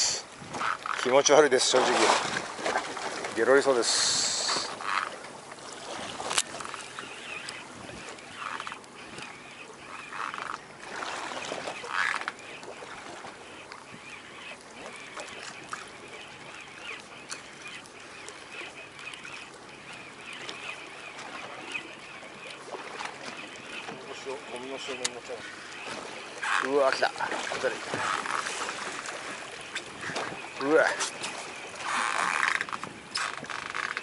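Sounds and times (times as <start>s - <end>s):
sea noise: 0.0s - 34.0s
wind: 0.0s - 34.0s
fishing reel whirring: 3.8s - 5.2s, 6.0s - 10.7s, 11.3s - 27.3s, 27.9s - 34.0s.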